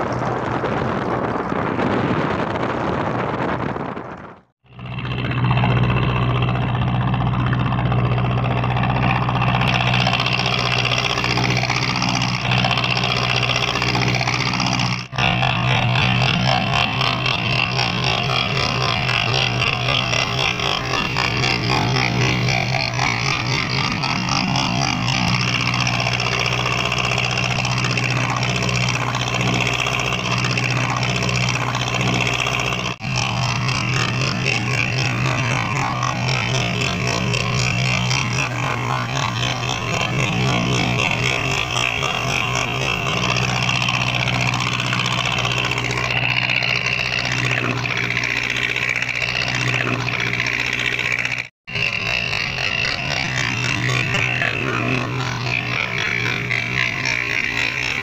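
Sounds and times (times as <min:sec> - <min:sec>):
boat diesel engine droning: 0:00.0 - 0:58.0
bow wave splashing along hull: 0:05.3 - 0:58.0.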